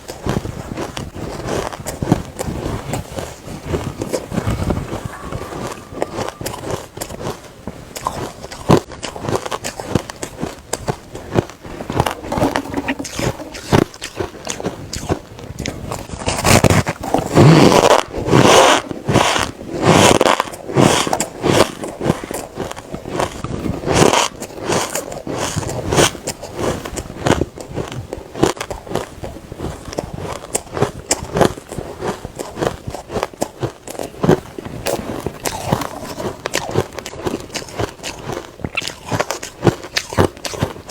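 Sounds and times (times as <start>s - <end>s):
chewing ice crunching: 0.0s - 40.9s.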